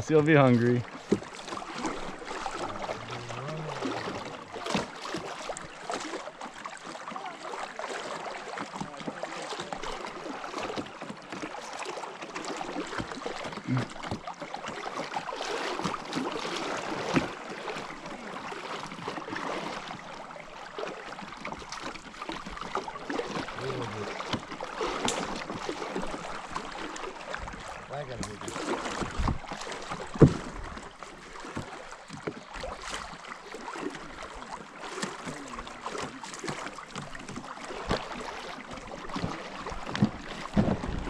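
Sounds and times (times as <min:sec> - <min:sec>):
river water lapping around boat: 0:00.0 - 0:41.0.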